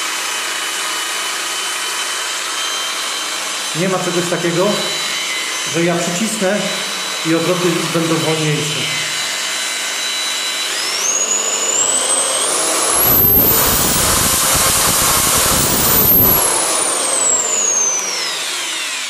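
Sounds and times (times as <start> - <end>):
polisher motor whine: 0.0 - 19.0.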